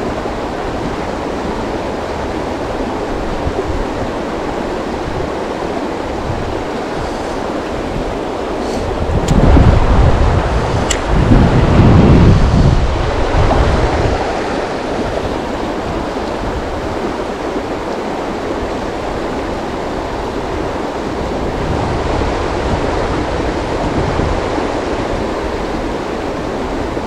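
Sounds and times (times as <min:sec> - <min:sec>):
river water rushing: 0:00.0 - 0:27.0
wind rumble on microphone: 0:00.0 - 0:27.0.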